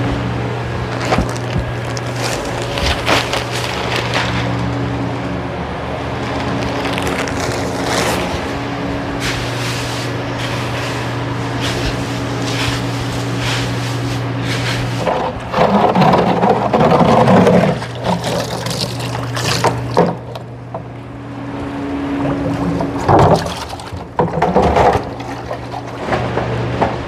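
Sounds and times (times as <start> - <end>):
fan motor hum: 0.0 - 27.0
rough scraping and rustling: 0.6 - 5.0, 6.2 - 20.4, 22.2 - 26.6
knocks and rustles of work: 0.7 - 5.0, 6.2 - 21.0, 22.1 - 27.0.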